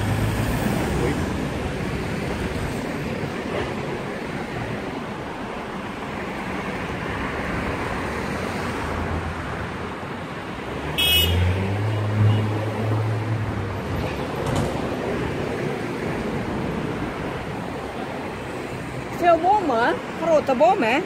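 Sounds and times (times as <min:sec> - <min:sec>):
heavy vehicle engine hum: 0:00.0 - 0:21.0
street traffic: 0:00.0 - 0:21.0.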